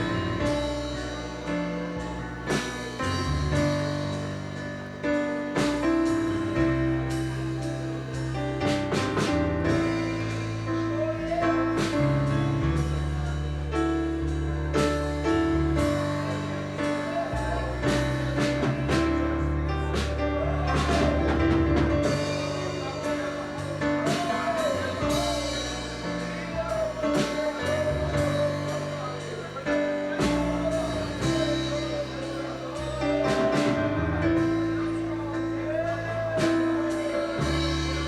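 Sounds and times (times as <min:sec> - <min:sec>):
band playing worship music: 0:00.0 - 0:38.0
person singing: 0:00.0 - 0:38.0.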